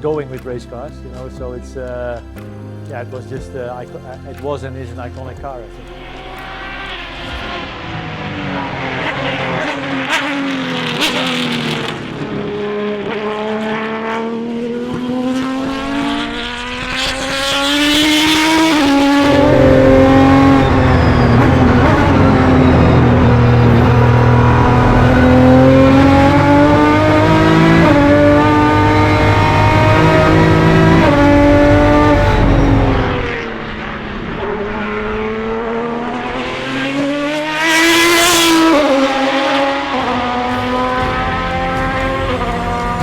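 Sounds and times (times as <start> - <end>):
race car engine accelerating: 5.7 - 43.0.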